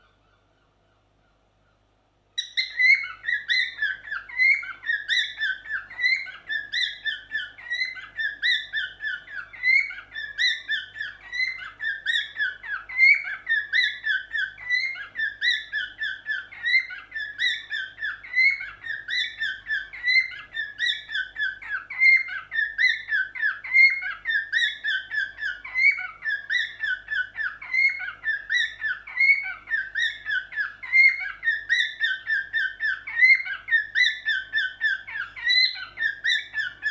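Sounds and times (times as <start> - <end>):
cockatiel chirping and warbling: 2.4 - 36.9.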